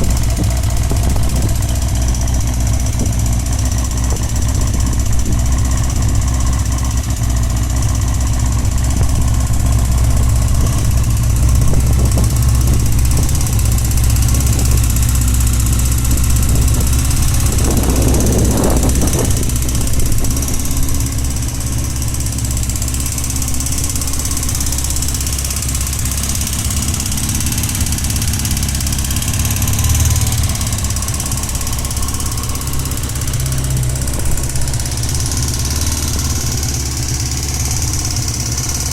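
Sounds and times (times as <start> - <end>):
burst of engine noise: 0.0 - 38.9
motorcycle engine idling: 0.0 - 38.9.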